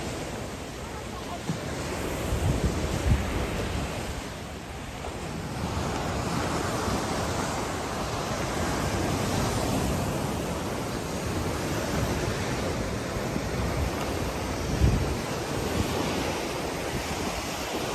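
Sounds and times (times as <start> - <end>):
surf washing onto shore: 0.0 - 17.9
wind buffeting microphone: 0.0 - 17.9.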